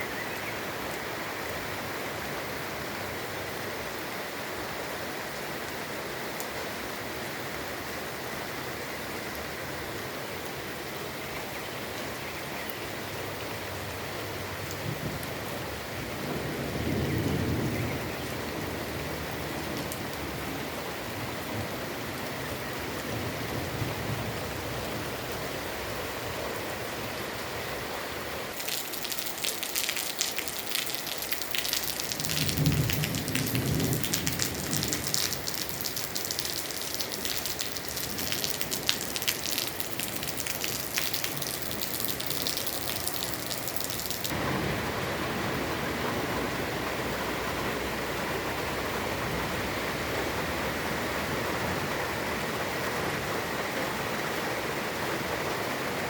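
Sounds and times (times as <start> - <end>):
heavy rain falling: 0.0 - 56.0
raindrops hitting a nearby surface: 0.0 - 56.0.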